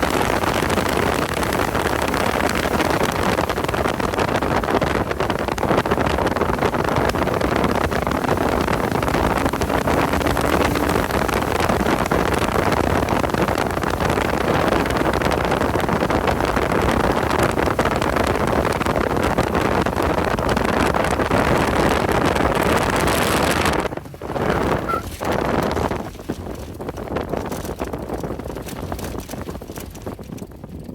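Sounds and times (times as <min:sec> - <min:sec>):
car engine at speed: 0:00.0 - 0:25.3
road noise: 0:00.0 - 0:27.7.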